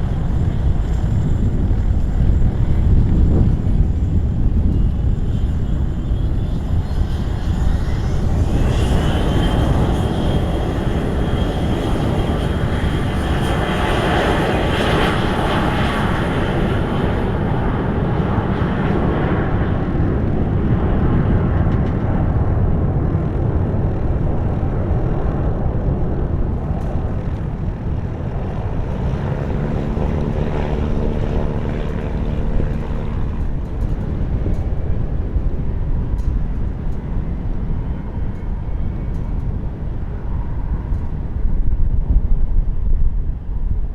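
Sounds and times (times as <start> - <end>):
jet engine whine: 0.0 - 43.9
wind buffeting microphone: 0.0 - 43.9.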